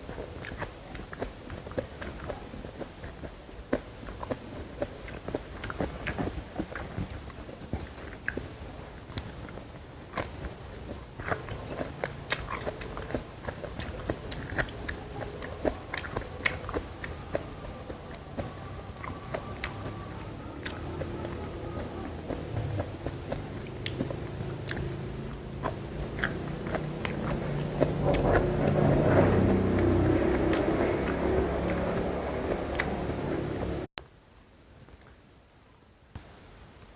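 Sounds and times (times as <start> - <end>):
crunchy bites and chewing: 0.0 - 33.7
mouth sounds: 0.0 - 33.9.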